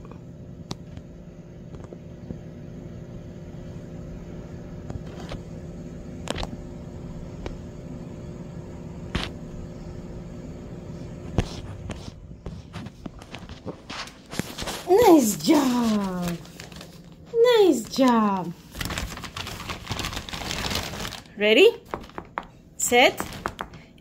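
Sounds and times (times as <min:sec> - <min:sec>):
low household hum: 0:00.0 - 0:24.0.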